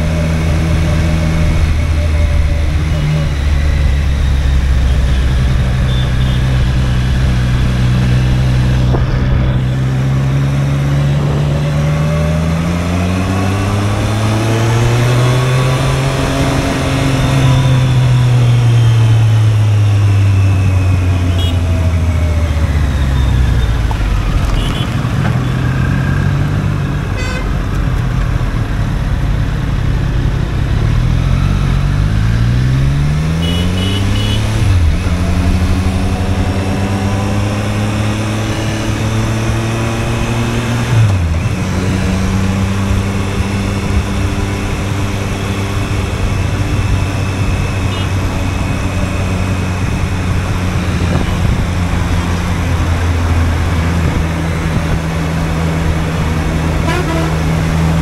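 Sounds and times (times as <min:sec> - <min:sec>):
motorcycle engine revving: 0:00.0 - 0:58.0
wind and road noise: 0:00.0 - 0:58.0.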